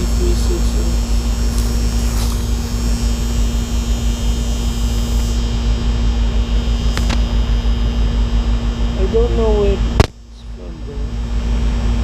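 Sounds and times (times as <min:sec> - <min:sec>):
heat pump compressor hum: 0:00.0 - 0:12.0.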